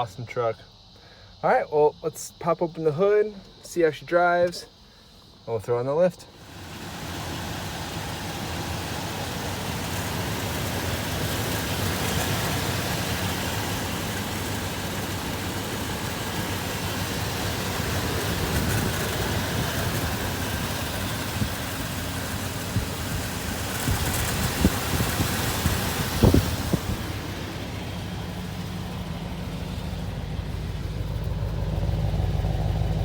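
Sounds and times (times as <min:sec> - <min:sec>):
truck engine idling: 0:00.7 - 0:33.0.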